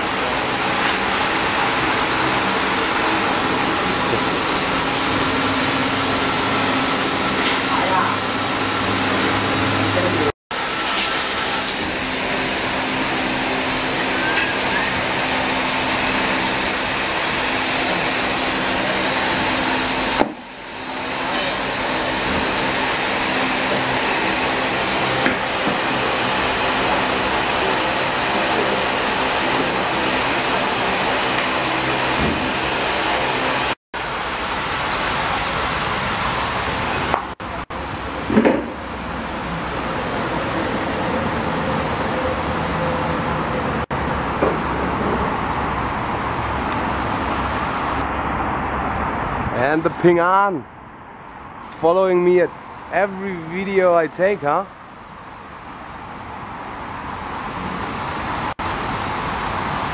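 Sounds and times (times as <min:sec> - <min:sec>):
mechanical hum with hiss: 0:00.0 - 0:59.9.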